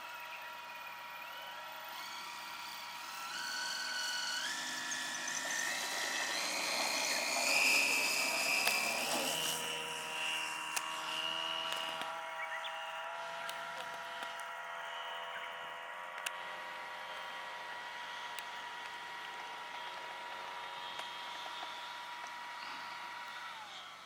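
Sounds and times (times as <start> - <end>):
model plane motor whining: 0.0 - 24.0.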